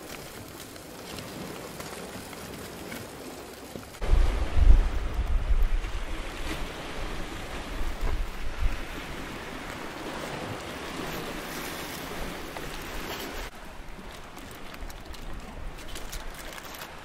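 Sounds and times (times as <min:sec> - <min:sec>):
sea surf washing: 0:00.0 - 0:17.0
wind rumbling on microphone: 0:00.0 - 0:17.0.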